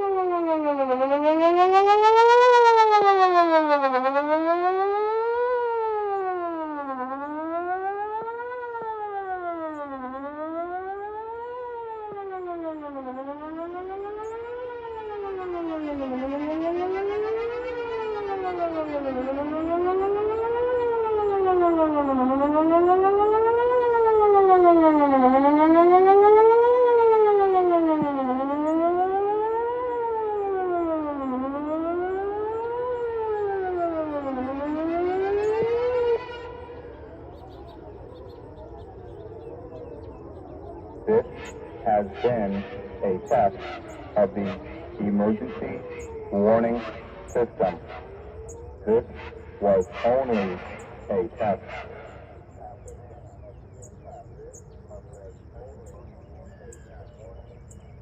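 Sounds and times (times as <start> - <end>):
distant warning siren wailing: 0.0 - 58.0.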